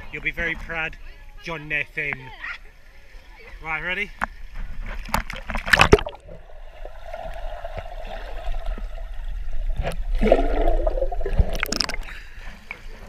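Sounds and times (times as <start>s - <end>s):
muffled underwater pool water: 2.0s - 13.0s.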